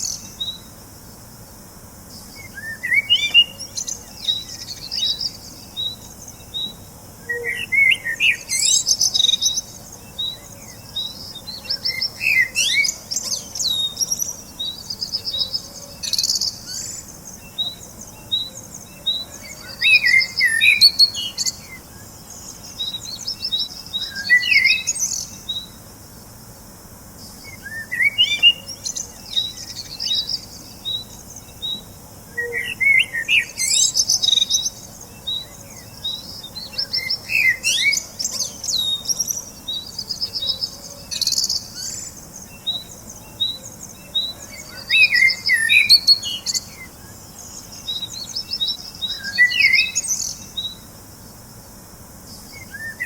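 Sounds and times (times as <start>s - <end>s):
birds chirping and trilling: 0.0s - 26.4s, 27.2s - 51.4s, 52.3s - 53.0s
faint steady hiss: 0.0s - 53.0s.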